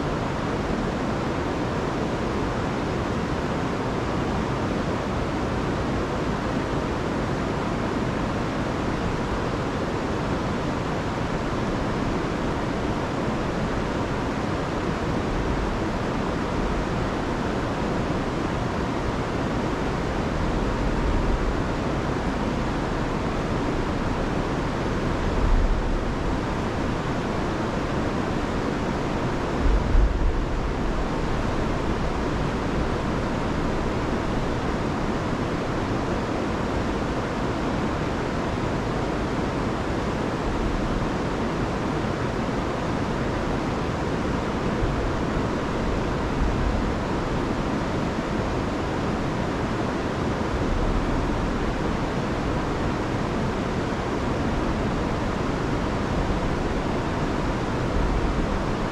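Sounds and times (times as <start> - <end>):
river roaring over waterfalls: 0.0 - 58.9
wind rumble on microphone: 0.0 - 58.9.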